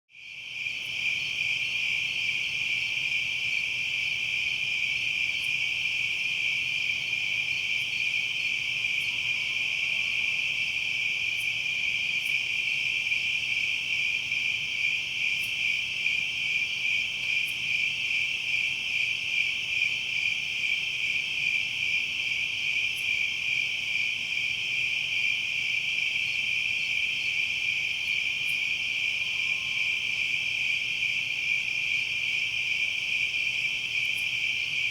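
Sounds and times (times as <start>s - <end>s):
night insects trilling: 0.2s - 34.9s.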